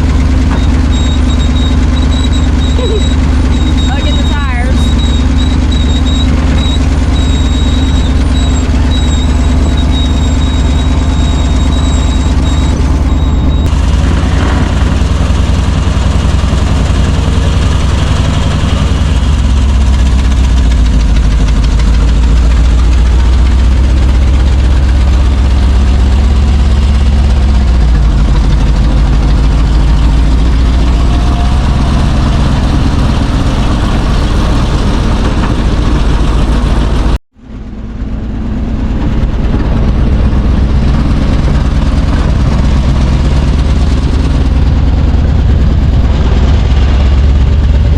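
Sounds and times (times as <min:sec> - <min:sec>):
truck engine deep rumble: 0:00.0 - 0:47.9.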